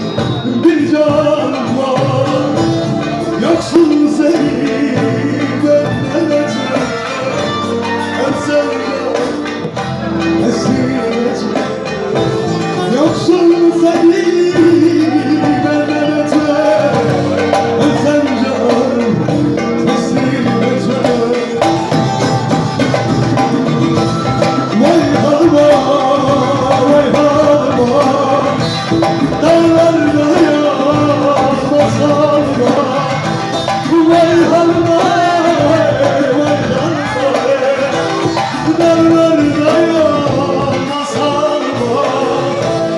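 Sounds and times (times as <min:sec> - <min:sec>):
person singing: 0:00.0 - 0:42.9
plucked lute strings: 0:00.0 - 0:42.9.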